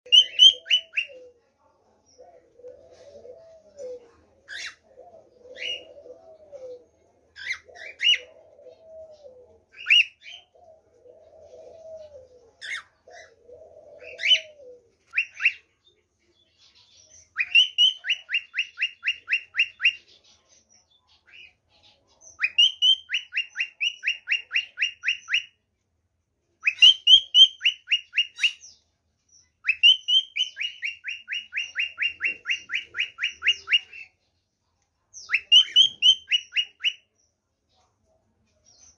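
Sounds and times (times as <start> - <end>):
low cooing bird calls: 0.1 - 25.6, 26.6 - 34.3, 35.1 - 38.9.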